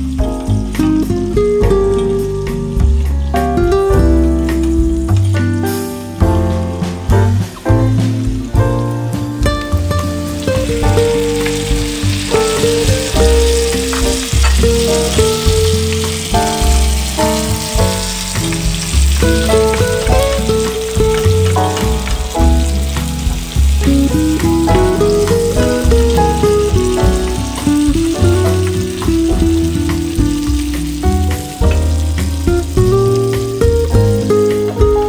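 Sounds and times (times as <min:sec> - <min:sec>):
background music: 0:00.0 - 0:35.0
vegetables sizzling in oil: 0:00.0 - 0:35.0.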